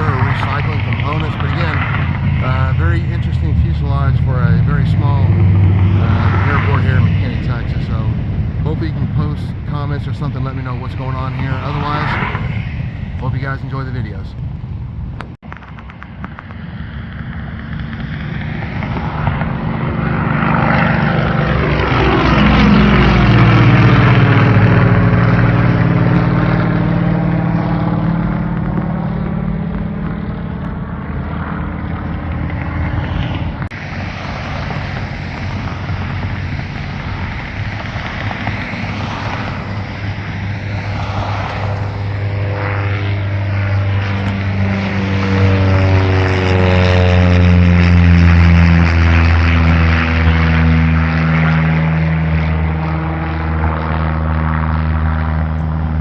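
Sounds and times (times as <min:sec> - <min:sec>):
propeller airplane engine passing: 0:00.0 - 0:56.0
steady engine sound: 0:00.0 - 0:56.0.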